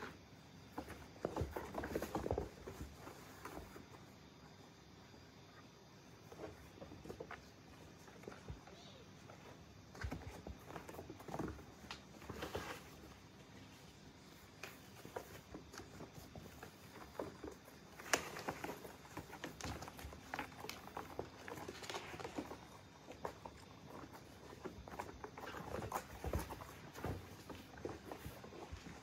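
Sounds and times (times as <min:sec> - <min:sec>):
kittens' paws pattering on carpet: 0:00.0 - 0:04.6, 0:05.4 - 0:29.0.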